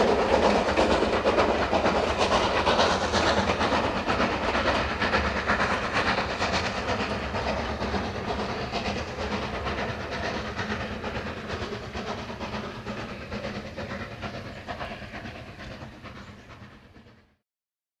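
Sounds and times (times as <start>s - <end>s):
steam locomotive working: 0.0s - 17.4s.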